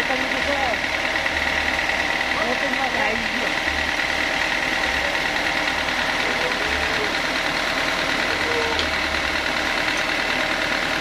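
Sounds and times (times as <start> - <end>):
high saw whine: 0.0 - 11.0
sawmill machinery drone: 0.0 - 11.0.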